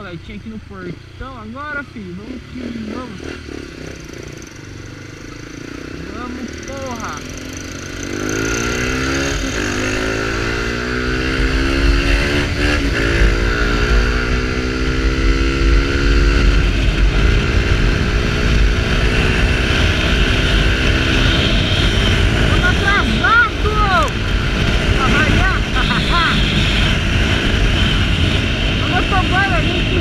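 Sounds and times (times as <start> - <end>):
motorcycle engine accelerating hard: 0.8 - 30.0.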